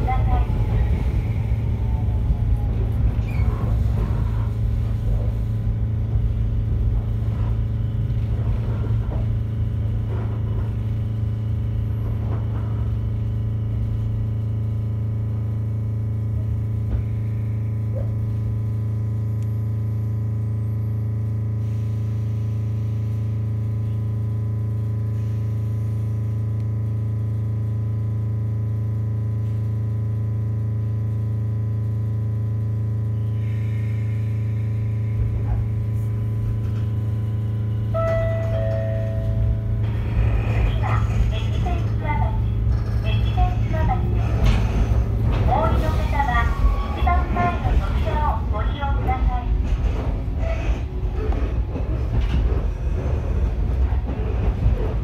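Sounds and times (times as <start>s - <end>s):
railcar running gear rumble: 0.0s - 55.0s.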